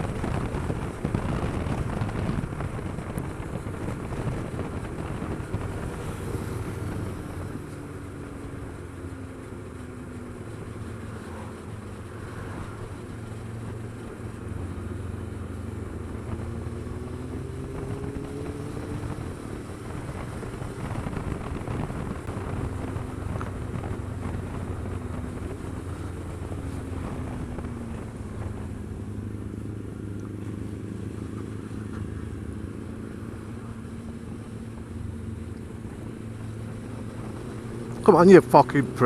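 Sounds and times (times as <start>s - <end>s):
wind rushing past microphone: 0.0s - 9.3s, 10.2s - 39.0s
motorcycle engine under way: 0.0s - 39.0s.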